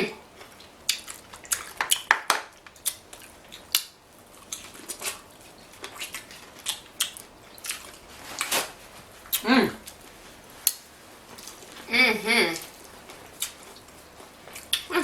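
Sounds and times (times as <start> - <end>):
close chewing and lip smacking: 0.3 - 11.9, 12.6 - 14.9.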